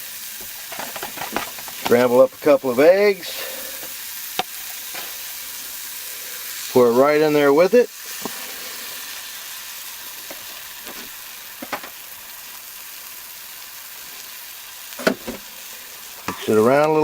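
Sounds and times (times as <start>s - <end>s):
eggs and vegetables sizzling: 0.0s - 17.0s.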